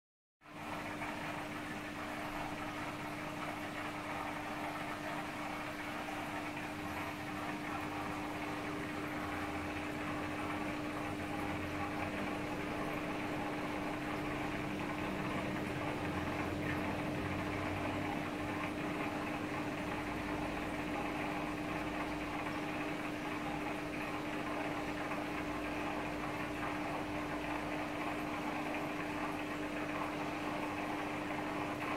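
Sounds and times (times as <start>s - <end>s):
aquarium pump humming: 0.4s - 31.9s.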